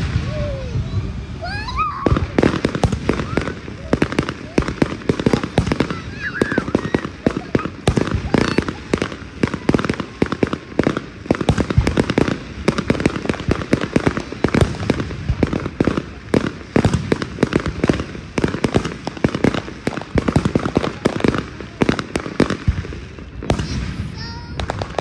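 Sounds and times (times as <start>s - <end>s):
firework shells bursting: 2.1s - 25.0s.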